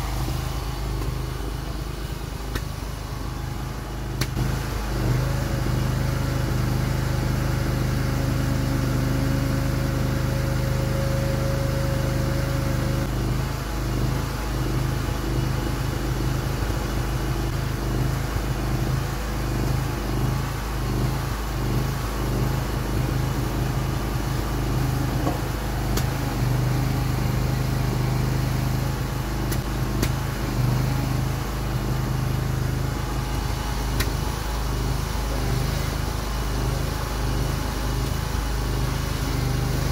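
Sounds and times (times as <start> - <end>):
excavator engine running: 0.0 - 39.9
high steady whine: 0.0 - 39.9.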